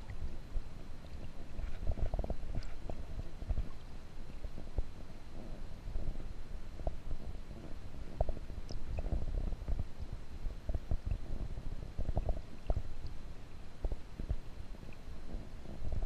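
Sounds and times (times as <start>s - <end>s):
muffled underwater rumbling: 0.0s - 16.0s.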